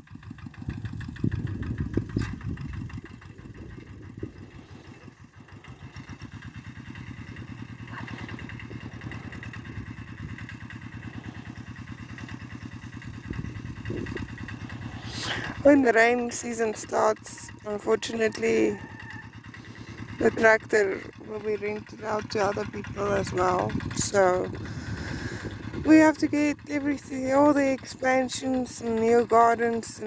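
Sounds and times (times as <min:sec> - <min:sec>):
small tractor engine running: 0:00.0 - 0:30.0.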